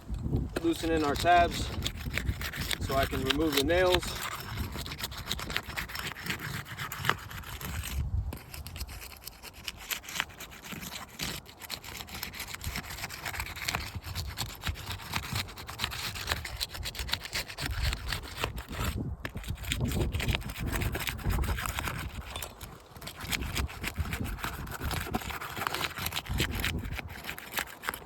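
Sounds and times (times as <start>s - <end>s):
bar scraping under shingles: 0.2s - 28.0s.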